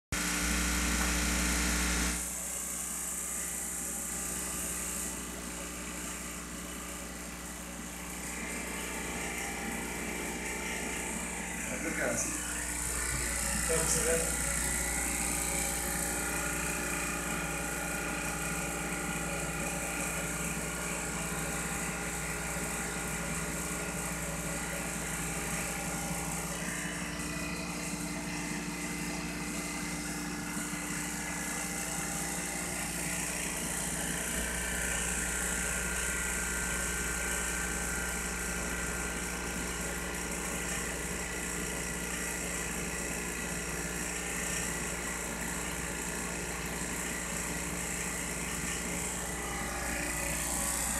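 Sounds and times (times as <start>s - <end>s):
vacuum pump humming: 0.1s - 50.9s.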